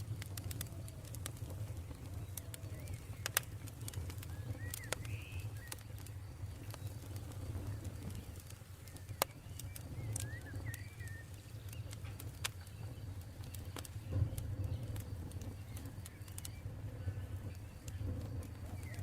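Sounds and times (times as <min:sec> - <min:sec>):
campfire crackling: 0:00.0 - 0:19.0
bird chirping: 0:01.7 - 0:19.0.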